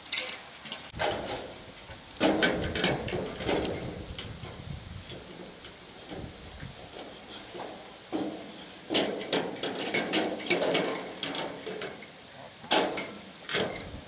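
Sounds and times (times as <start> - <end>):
metal tent poles clanking: 0.0 - 14.0.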